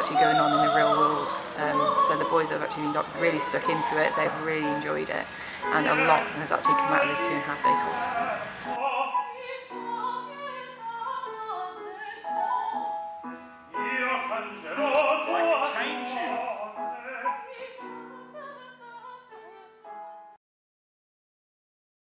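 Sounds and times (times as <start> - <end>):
opera singing with accompaniment: 0.0 - 19.8.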